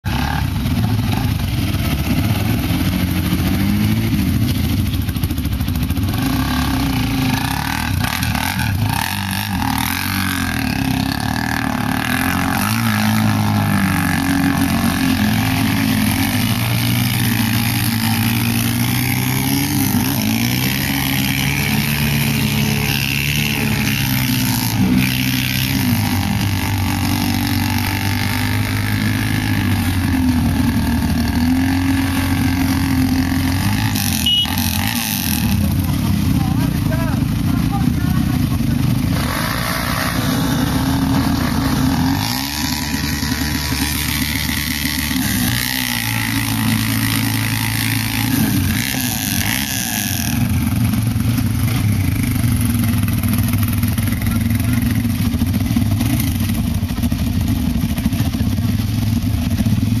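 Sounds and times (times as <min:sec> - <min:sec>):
quad bike engine revving: 0:00.0 - 1:00.0.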